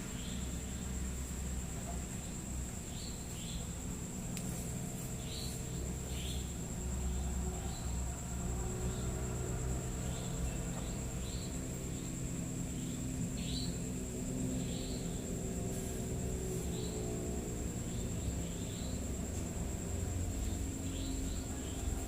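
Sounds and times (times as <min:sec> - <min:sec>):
insect high trill: 0:00.0 - 0:22.0
steady low drone: 0:00.0 - 0:22.0.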